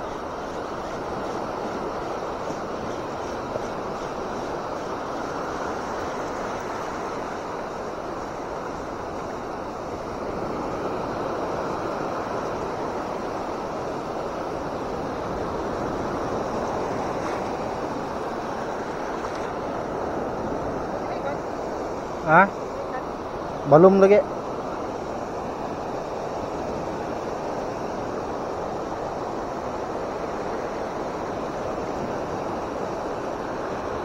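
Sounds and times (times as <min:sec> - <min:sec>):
surf breaking on beach: 0:00.0 - 0:34.0.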